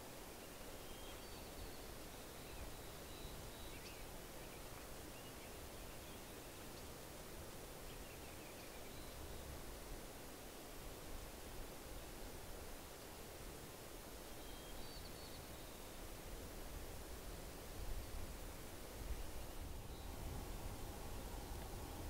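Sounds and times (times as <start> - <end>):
songbird chirps and trills: 0.0 - 10.8, 11.5 - 16.4, 17.4 - 22.0
steady outdoor hiss: 0.0 - 22.0.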